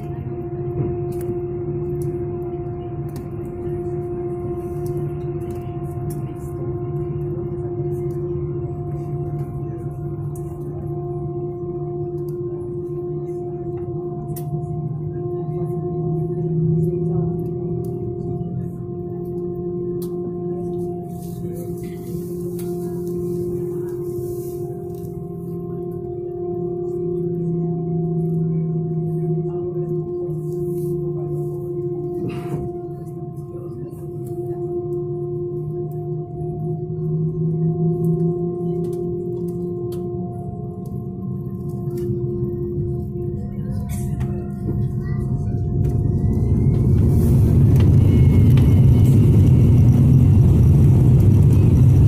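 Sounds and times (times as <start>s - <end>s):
jet engines idling in cabin: 0.0s - 52.0s.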